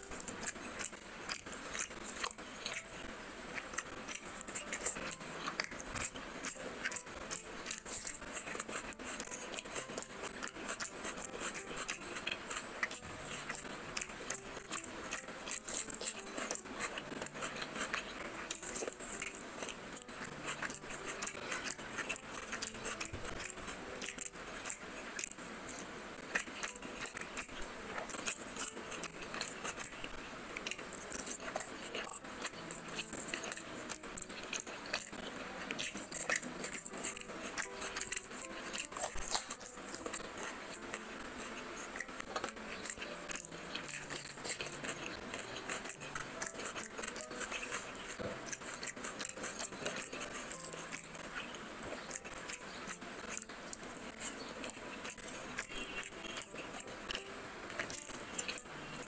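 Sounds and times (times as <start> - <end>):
wet chewing clicks and smacks: 0.0 - 59.0.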